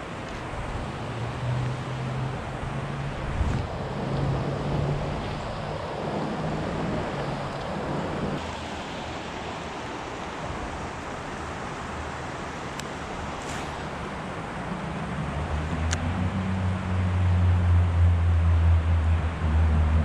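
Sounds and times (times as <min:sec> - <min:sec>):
creek water rushing over riffles: 0:00.0 - 0:19.9.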